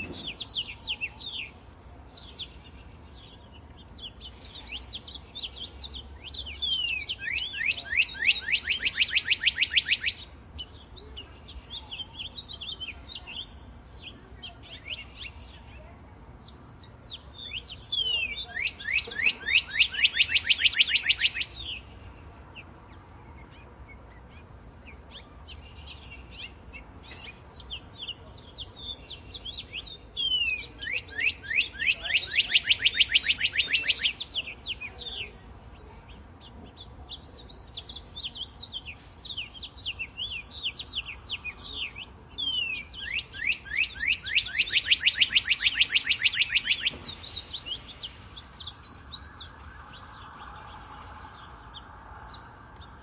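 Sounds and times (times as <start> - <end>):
songbird trilling: 0.0 - 13.6, 14.5 - 22.0, 23.4 - 35.4, 37.2 - 49.6
bird chirps and call notes: 0.0 - 53.0.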